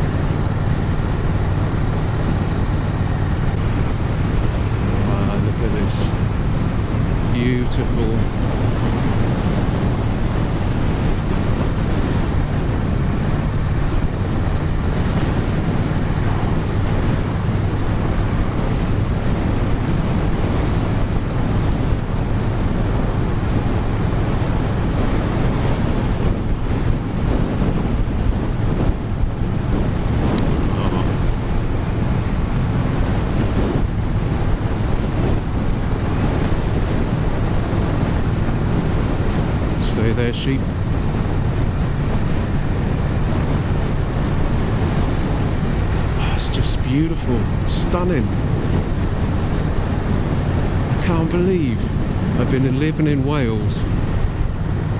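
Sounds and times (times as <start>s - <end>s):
motorcycle engine cruising: 0.0s - 54.9s
wind noise on microphone: 0.0s - 54.9s.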